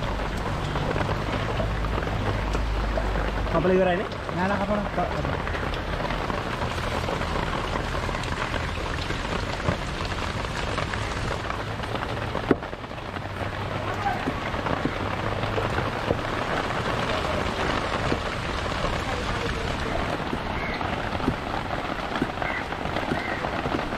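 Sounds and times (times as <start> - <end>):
rain pattering: 0.0 - 23.9.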